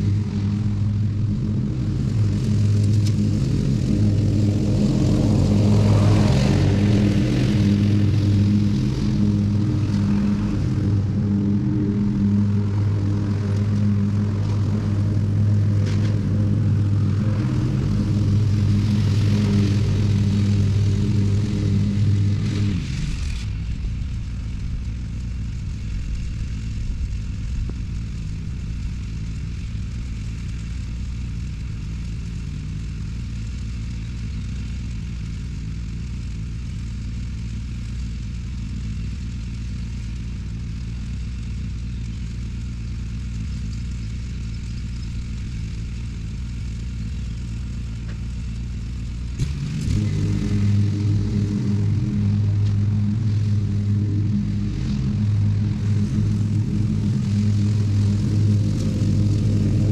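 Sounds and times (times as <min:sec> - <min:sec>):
ride-on lawn mower engine: 0:00.0 - 0:59.9.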